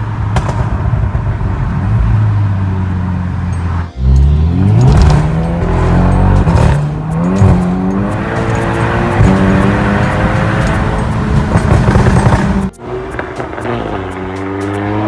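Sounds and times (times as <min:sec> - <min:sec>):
exhaust pops and crackles: 0:00.0 - 0:03.4, 0:04.7 - 0:15.0
car engine revving: 0:00.0 - 0:15.0.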